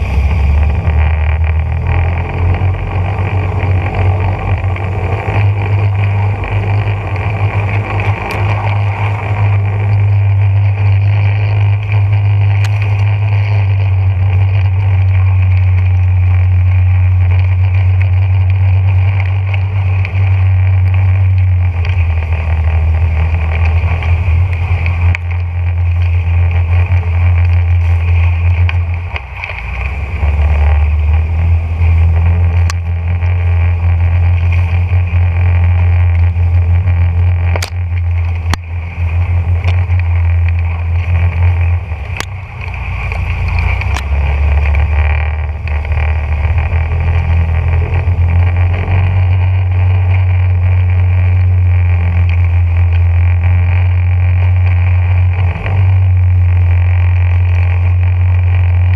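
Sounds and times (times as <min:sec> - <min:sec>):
boat motor running: 0:00.0 - 0:58.9
sharp ticks: 0:00.0 - 0:58.9
water and wind noise: 0:00.0 - 0:58.9.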